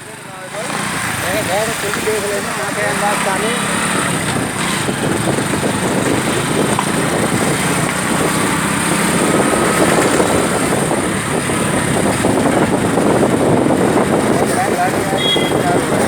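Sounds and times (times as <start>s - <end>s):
motorcycles: 0.0s - 16.0s
road traffic noise: 0.0s - 16.0s.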